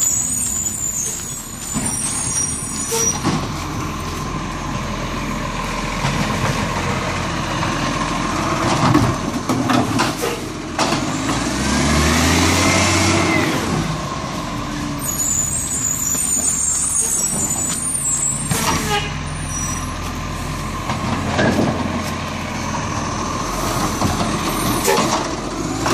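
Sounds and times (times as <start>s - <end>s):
garbage truck diesel engine: 0.0s - 25.9s.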